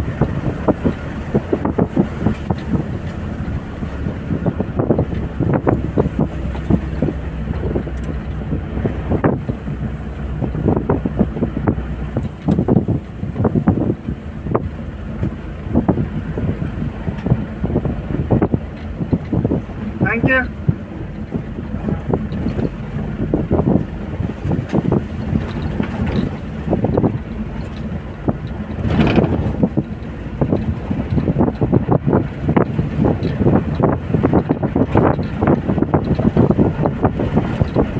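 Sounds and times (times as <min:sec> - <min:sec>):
knocks and bumps on rough track: 0:00.0 - 0:37.9
vehicle engine running: 0:00.0 - 0:37.9.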